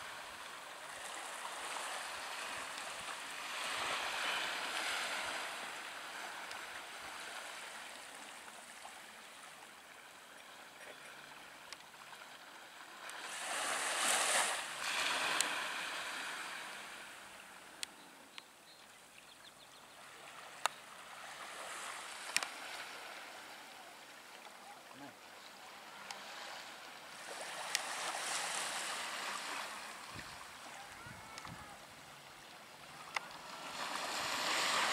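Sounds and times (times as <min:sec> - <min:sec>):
sea water lapping at shore: 0:00.0 - 0:34.9.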